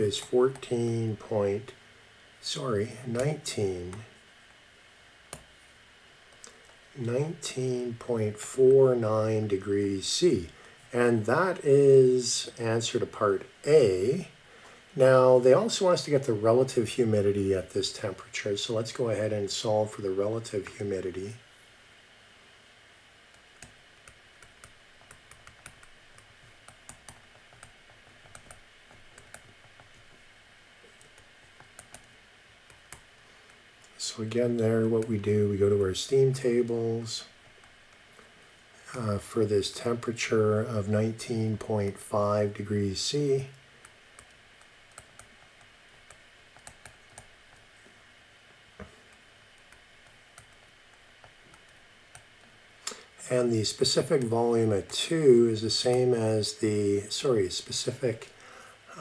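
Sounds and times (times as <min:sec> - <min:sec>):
faint background hiss: 0:00.0 - 0:59.0.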